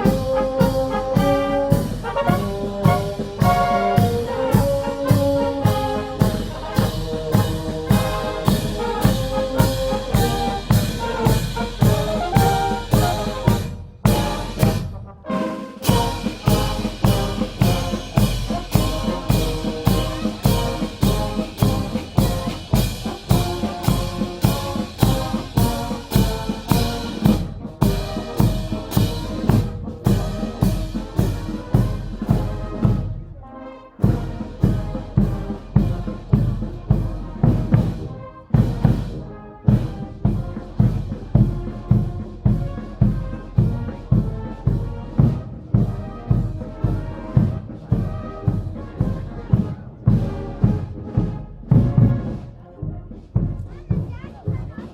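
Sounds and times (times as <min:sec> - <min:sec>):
steady drum beat: 0:00.0 - 0:15.2, 0:15.8 - 0:33.3, 0:34.0 - 0:54.9
brass playing a march: 0:00.0 - 0:54.9.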